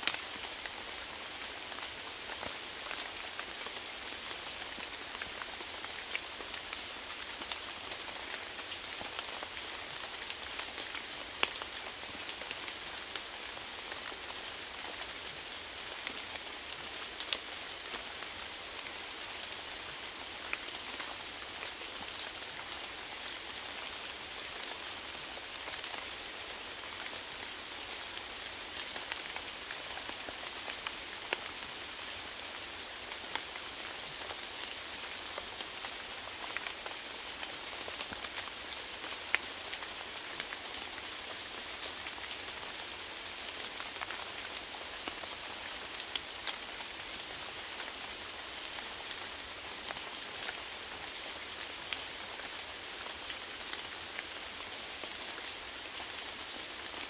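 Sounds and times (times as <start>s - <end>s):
raindrops ticking on a surface: 0.0s - 57.0s
steady rainfall: 0.0s - 57.0s.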